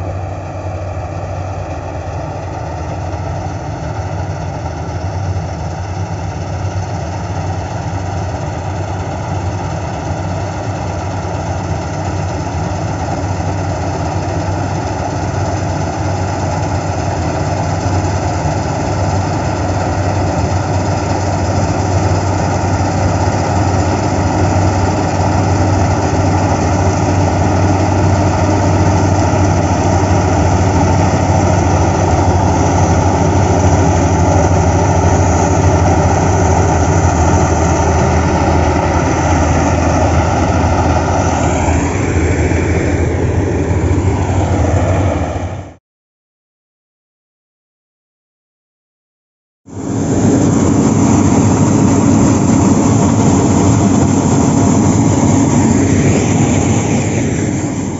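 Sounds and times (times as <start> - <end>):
combine harvester diesel engine drone: 0.0 - 45.8, 49.7 - 57.9.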